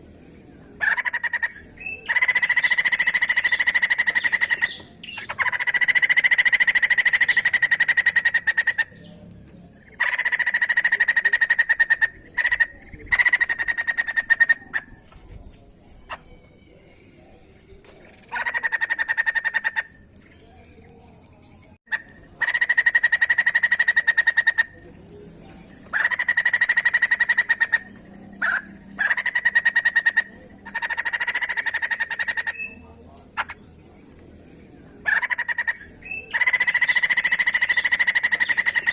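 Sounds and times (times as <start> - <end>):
bird calling in rapid notes: 0.8 - 9.2, 9.8 - 15.2, 18.1 - 20.7, 21.9 - 25.2, 25.8 - 33.9, 35.0 - 38.9.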